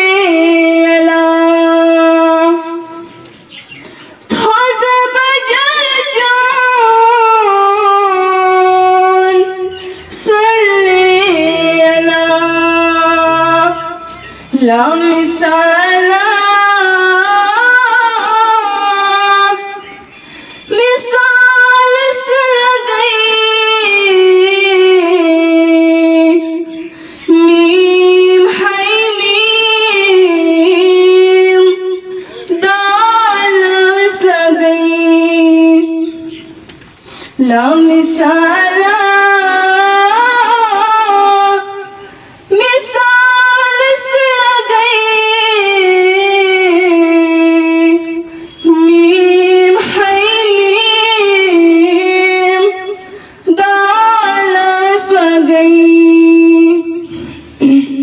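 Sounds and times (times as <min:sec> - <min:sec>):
girl singing unaccompanied: 0:00.0 - 0:03.1, 0:04.3 - 0:36.5, 0:37.4 - 0:58.0.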